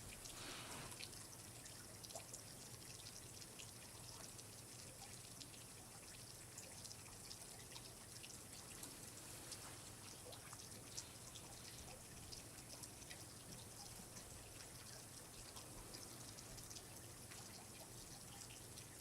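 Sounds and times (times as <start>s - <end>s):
water dripping and trickling: 0.0s - 19.0s.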